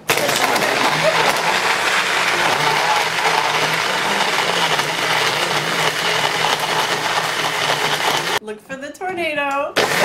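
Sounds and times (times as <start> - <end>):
blender whirring: 0.0 - 8.4, 9.8 - 10.0.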